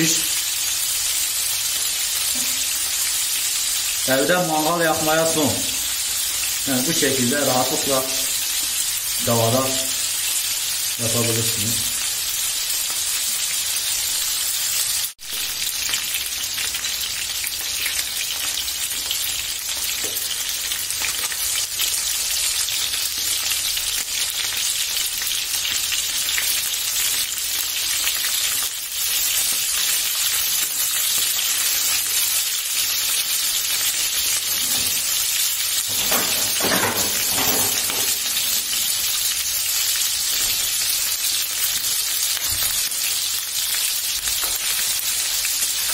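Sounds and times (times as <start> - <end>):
food sizzling in oil: 0.0 - 45.9.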